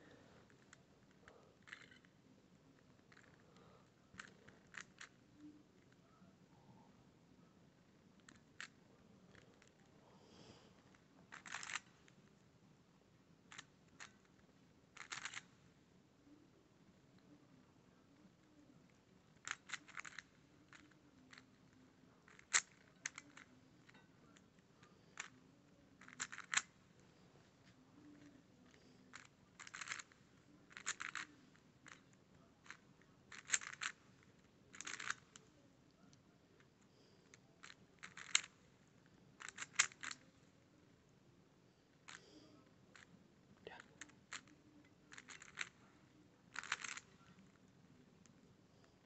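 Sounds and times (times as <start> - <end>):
puzzle cube plastic clicking: 0.4 - 6.1, 8.0 - 9.9, 10.8 - 12.4, 13.5 - 15.6, 18.2 - 26.8, 28.0 - 40.8, 41.9 - 49.0.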